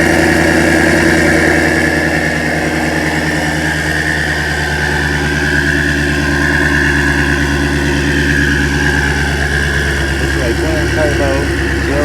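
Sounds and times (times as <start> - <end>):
car engine idling: 0.0 - 12.0
high whine: 0.0 - 12.0.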